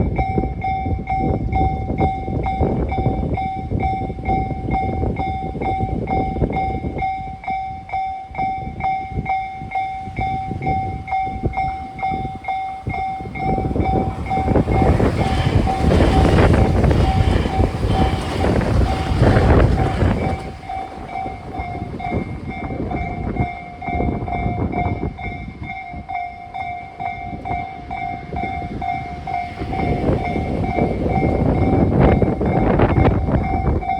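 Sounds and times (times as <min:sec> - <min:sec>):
electric trains passing: 0:00.0 - 0:33.9
level crossing warning bell: 0:00.0 - 0:33.9
wheels clacking over rail joints: 0:03.2 - 0:33.9.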